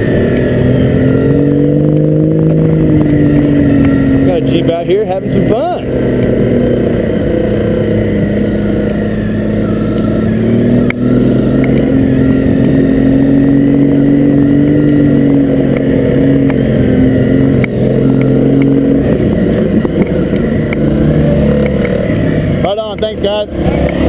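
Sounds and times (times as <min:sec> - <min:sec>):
motorcycle engine running under throttle: 0:00.0 - 0:24.0.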